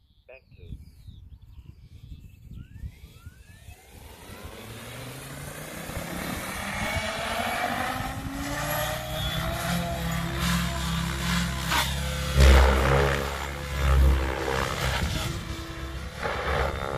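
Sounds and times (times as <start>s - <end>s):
electric motor whine: 2.0s - 16.9s
helicopter rotor: 2.5s - 16.9s.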